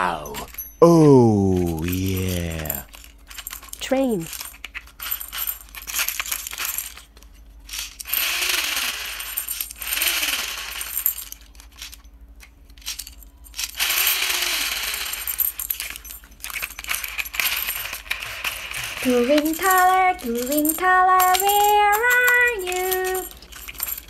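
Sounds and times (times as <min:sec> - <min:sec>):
plastic balls rattling in toy: 0:01.6 - 0:24.0.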